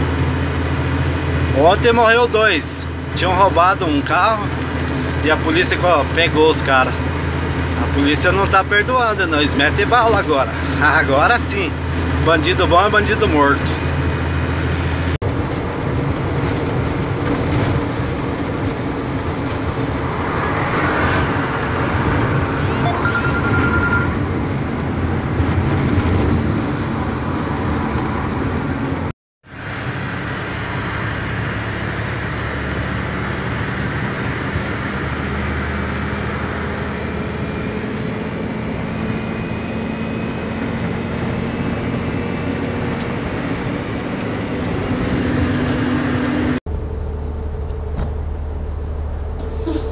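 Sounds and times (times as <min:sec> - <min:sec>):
truck diesel engine from cab: 0:00.0 - 0:49.9.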